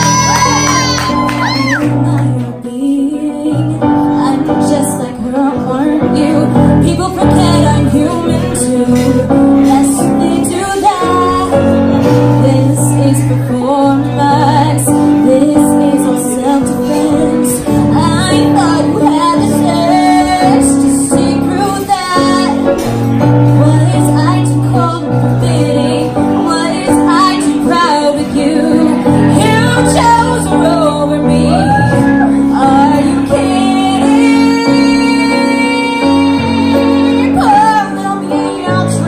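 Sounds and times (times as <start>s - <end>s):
woman singing into a microphone: 0.0s - 39.0s.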